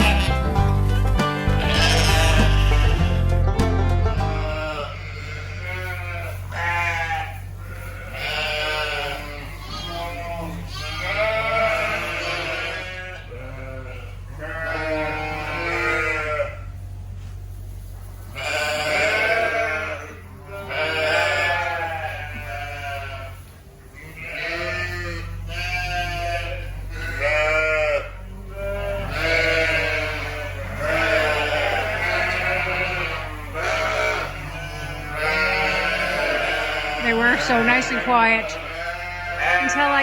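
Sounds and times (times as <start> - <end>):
sheep bleating: 0.0 - 0.6, 1.4 - 3.3, 4.1 - 16.8, 18.3 - 40.0
steady low hum: 0.0 - 40.0.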